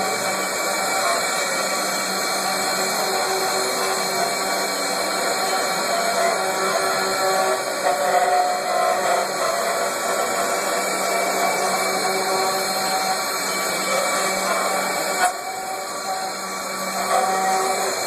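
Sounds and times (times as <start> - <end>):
router spindle whine: 0.0 - 18.0
wood cutting noise: 0.0 - 18.0.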